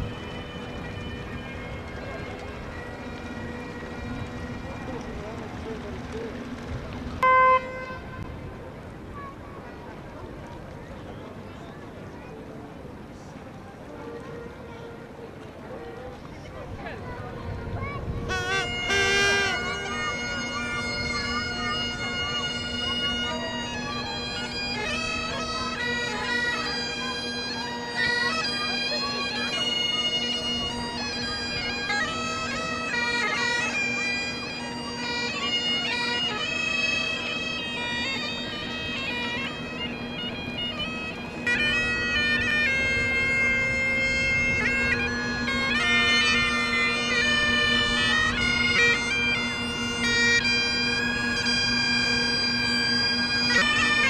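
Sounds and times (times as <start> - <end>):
bagpipes playing: 0.0 - 8.8, 13.6 - 54.0.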